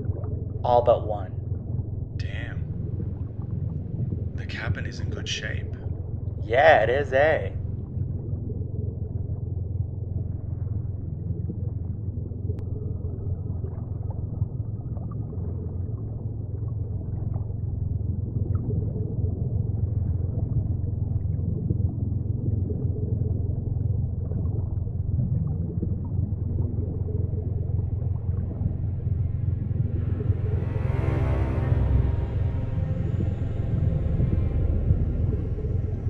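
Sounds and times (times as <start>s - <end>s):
deep underwater rumble: 0.0s - 36.0s.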